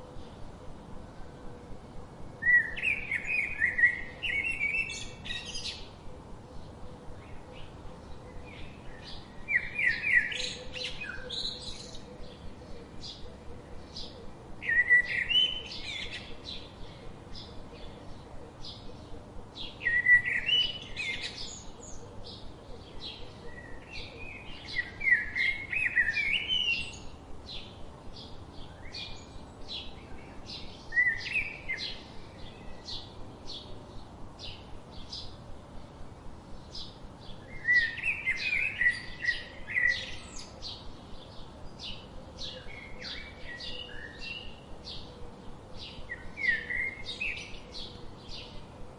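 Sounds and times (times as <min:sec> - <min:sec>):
small birds chirping: 0:02.4 - 0:48.9.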